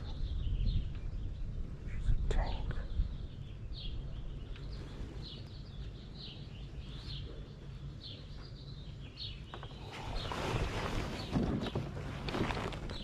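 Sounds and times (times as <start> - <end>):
wind rumble on microphone: 0.0 - 7.4, 8.0 - 13.0
small birds chirping: 0.0 - 13.0.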